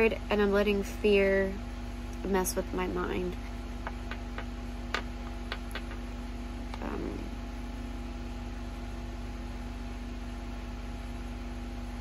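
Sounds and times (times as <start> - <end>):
mechanical hum with low pulse: 0.0 - 12.0.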